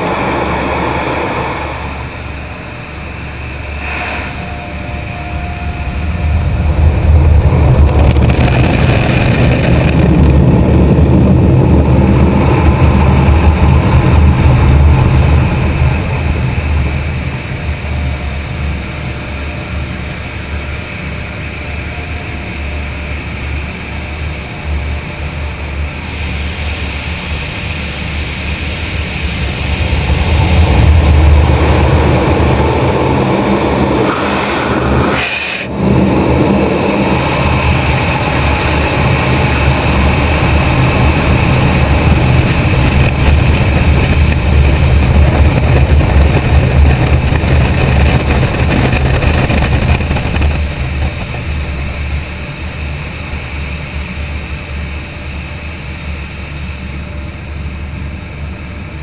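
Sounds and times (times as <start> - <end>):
car engine rumbling: 0.0 - 23.9, 27.7 - 56.0.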